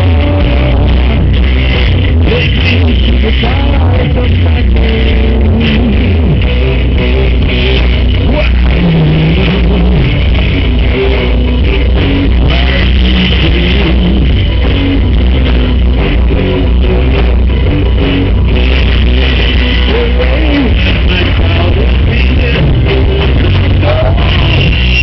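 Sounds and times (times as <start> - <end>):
bass line: 0.0 - 25.0
electric guitars: 0.0 - 25.0
rock band playing live: 0.0 - 25.0.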